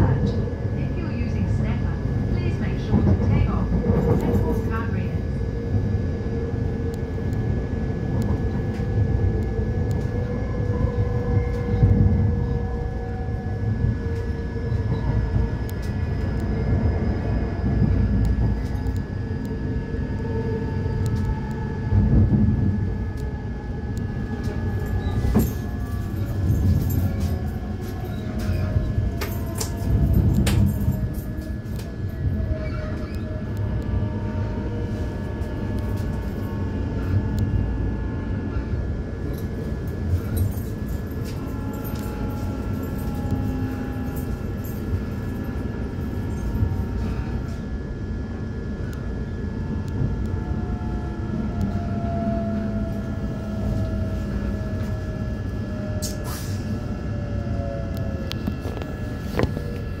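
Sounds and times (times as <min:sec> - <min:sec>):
faint whining tones: 0:00.0 - 1:00.0
wheels rumbling on rails: 0:00.0 - 1:00.0.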